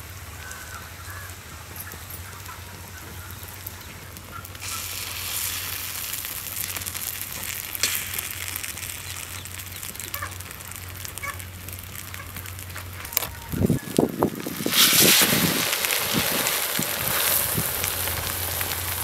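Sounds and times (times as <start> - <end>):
omelette sizzling in oil: 0.0 - 19.0.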